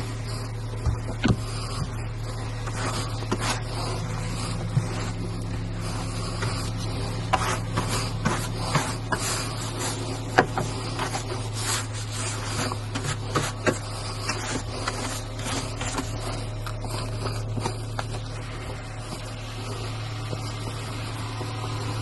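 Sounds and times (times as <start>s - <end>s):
car interior hum: 0.0s - 22.0s.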